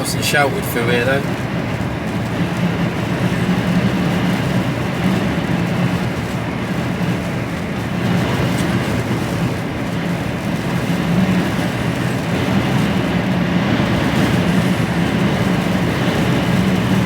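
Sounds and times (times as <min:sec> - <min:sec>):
diesel lorry engine droning: 0:00.0 - 0:17.0
tyre and road noise: 0:00.0 - 0:17.0.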